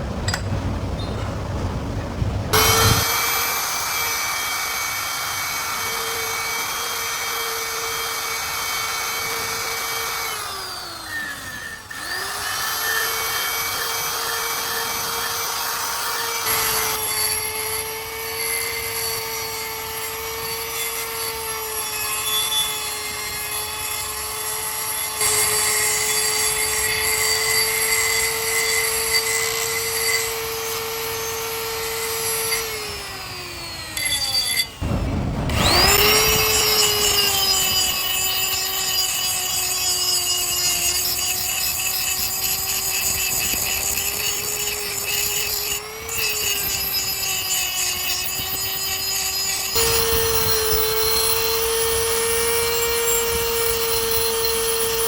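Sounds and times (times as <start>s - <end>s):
electric power tool motor whining: 2.5s - 55.0s.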